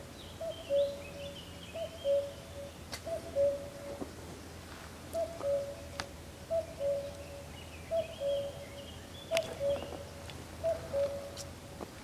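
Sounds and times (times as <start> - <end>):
faint high bird chirps: 0.2 - 4.0, 5.2 - 11.4
cuckoo calling: 0.4 - 4.0, 5.1 - 11.5.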